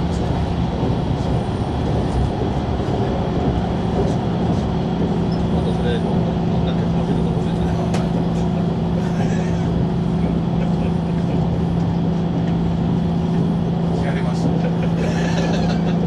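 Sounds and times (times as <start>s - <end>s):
rail rumble: 0.0s - 16.0s
train interior hum: 0.0s - 16.0s.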